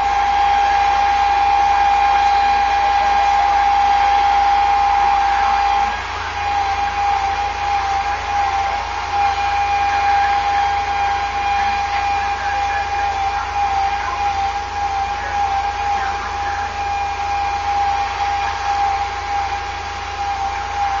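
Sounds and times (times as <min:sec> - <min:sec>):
hydraulic boom whine: 0:00.0 - 0:21.0
truck engine running: 0:00.0 - 0:21.0.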